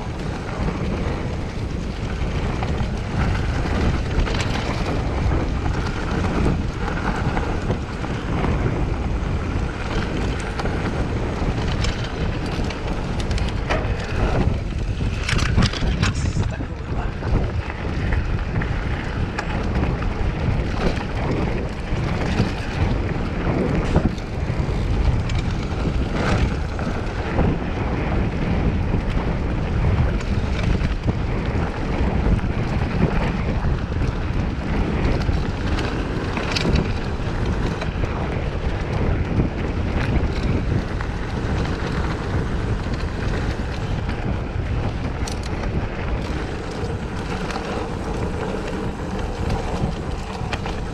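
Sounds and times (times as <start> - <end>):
bike clicks and rattles: 0.0 - 50.9
tyres rumbling on dirt: 0.0 - 50.9
wind buffeting microphone: 0.0 - 50.9.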